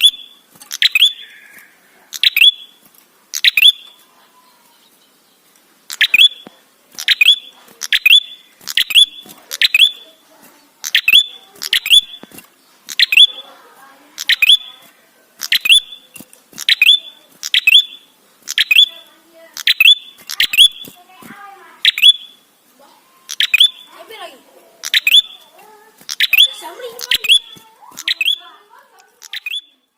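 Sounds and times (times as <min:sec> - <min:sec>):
bird chip calls: 0:00.0 - 0:04.9, 0:05.9 - 0:10.2, 0:10.8 - 0:13.6, 0:14.2 - 0:21.1, 0:21.8 - 0:22.5, 0:23.2 - 0:24.0, 0:24.8 - 0:29.9.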